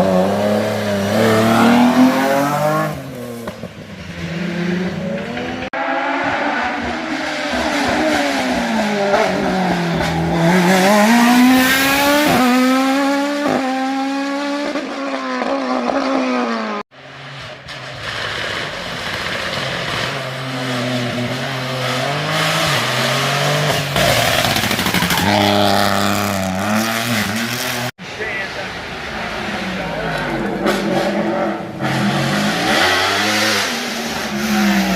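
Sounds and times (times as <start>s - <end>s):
race car engine revving: 0.0s - 16.9s, 17.9s - 34.9s.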